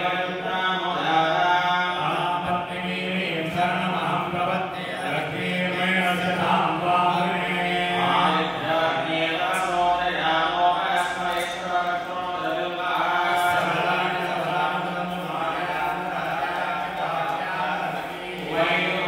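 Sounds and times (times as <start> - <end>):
group chanting: 0.0 - 19.0.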